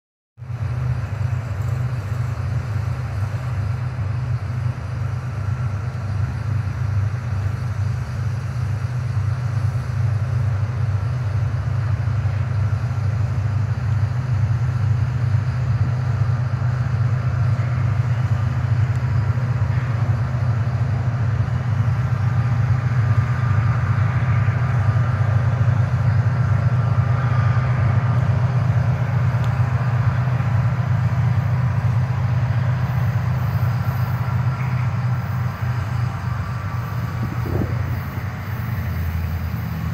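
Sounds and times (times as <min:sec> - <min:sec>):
diesel locomotive rumble: 0:00.4 - 0:39.9.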